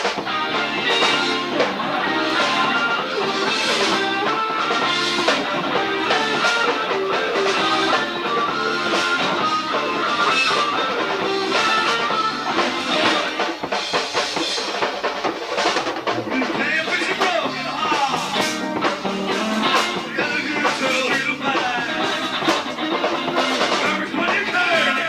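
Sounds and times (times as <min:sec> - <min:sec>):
electric guitar bending notes: 0:00.0 - 0:14.0, 0:16.2 - 0:25.0
bass guitar: 0:00.0 - 0:25.0
drum kit: 0:00.0 - 0:25.0.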